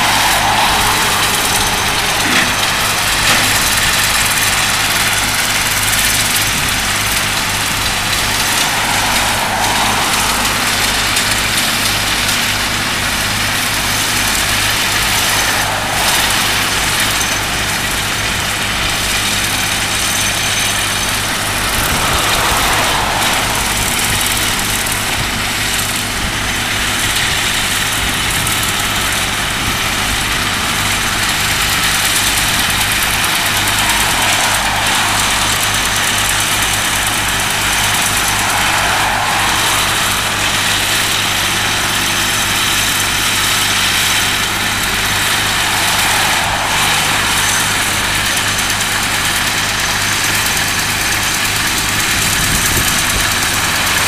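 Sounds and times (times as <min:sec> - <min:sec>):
diesel machinery running: 0:00.0 - 0:54.0.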